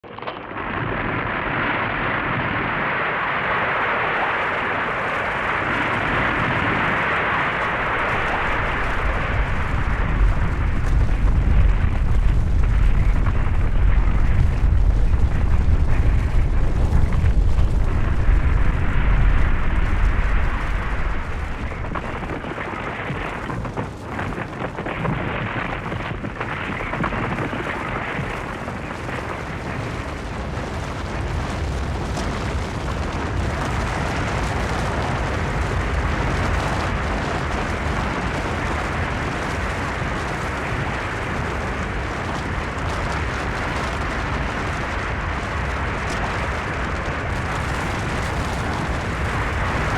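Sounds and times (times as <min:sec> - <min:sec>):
avalanche rumble: 0:00.0 - 0:49.9.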